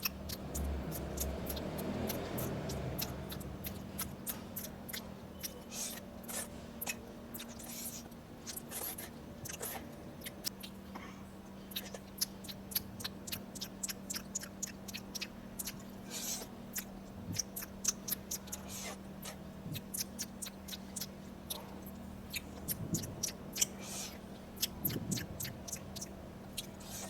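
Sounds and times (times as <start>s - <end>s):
faint steady hum: 0.0s - 27.0s
person chewing with wet smacks: 0.0s - 27.0s.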